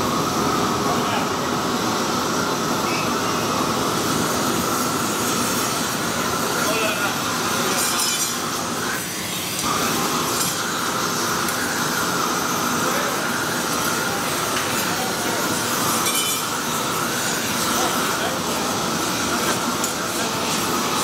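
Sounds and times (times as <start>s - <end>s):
propane torches hissing: 0.0s - 21.0s.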